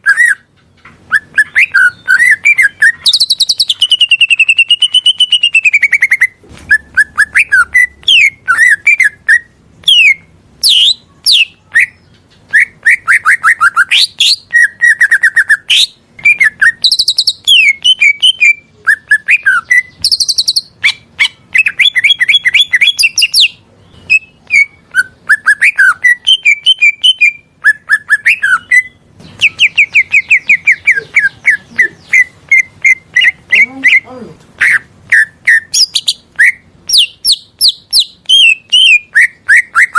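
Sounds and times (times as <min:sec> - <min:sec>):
leafbird singing: 0:00.0 - 0:39.9.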